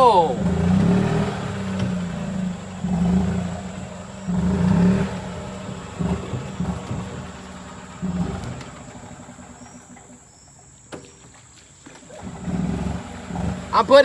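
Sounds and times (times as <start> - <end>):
golf cart engine revving: 0.0 - 14.0.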